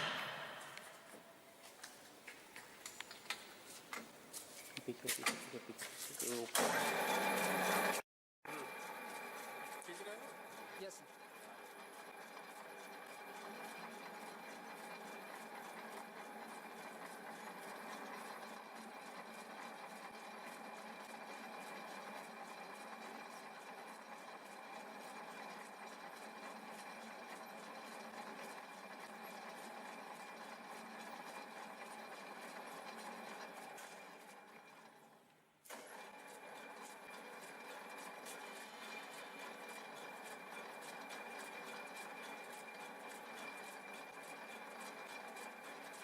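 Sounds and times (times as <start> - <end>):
lathe motor humming: 6.6 - 34.7, 35.8 - 46.0.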